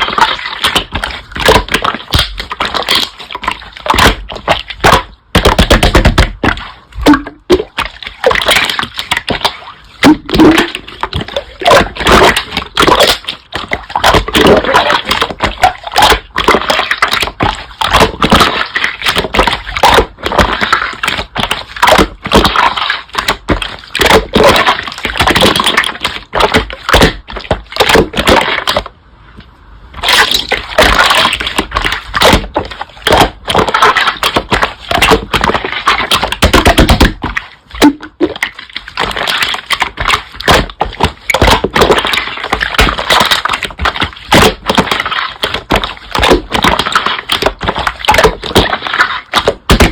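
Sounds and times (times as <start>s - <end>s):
slime crackling and squelching: 0.0s - 28.9s, 30.0s - 49.9s.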